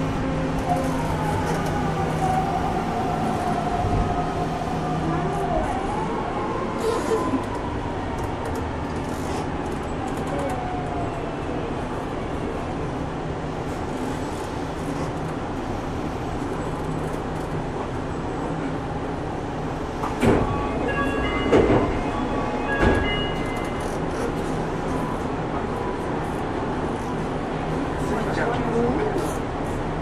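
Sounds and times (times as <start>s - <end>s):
monorail car running noise: 0.0s - 30.0s.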